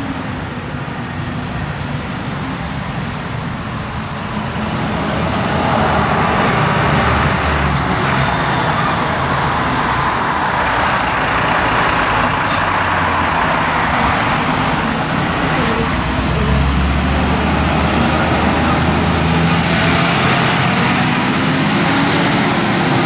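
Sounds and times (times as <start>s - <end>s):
fire truck diesel engine approaching: 0.0s - 23.0s.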